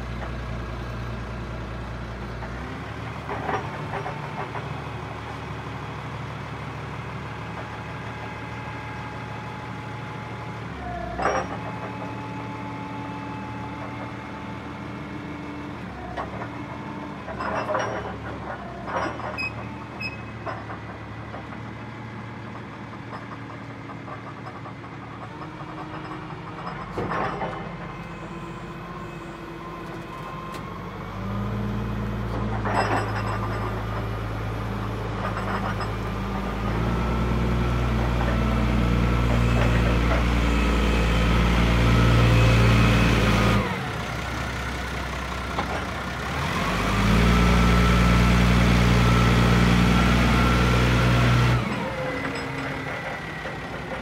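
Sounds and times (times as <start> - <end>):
forklift diesel engine running: 0.0 - 54.0.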